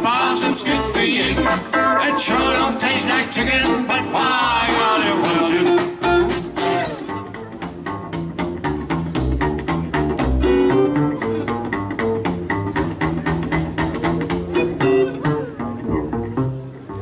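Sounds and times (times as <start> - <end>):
guitar lines: 0.0 - 17.0
plucked upright bass: 0.0 - 17.0
rockabilly band playing: 0.0 - 17.0.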